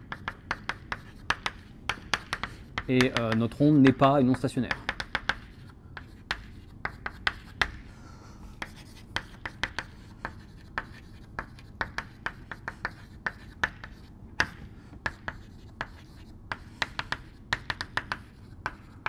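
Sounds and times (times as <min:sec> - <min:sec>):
chalk tapping and scraping on blackboard: 0:00.0 - 0:19.0.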